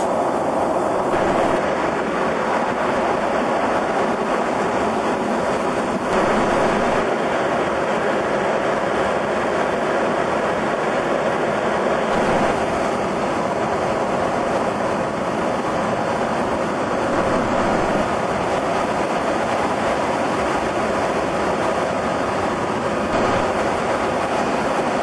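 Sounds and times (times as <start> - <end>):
aircraft cabin engine roar: 0.0 - 25.0.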